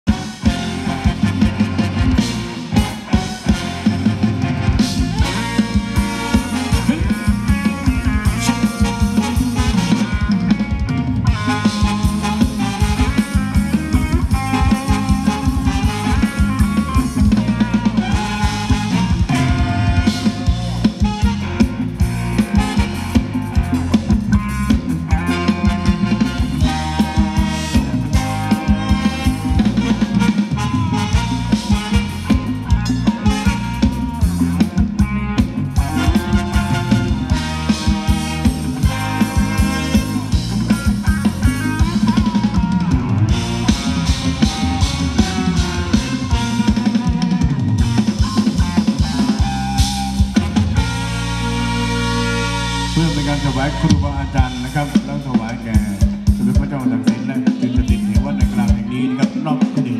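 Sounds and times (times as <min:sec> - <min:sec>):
amplified band dance music: 0:00.0 - 0:59.9.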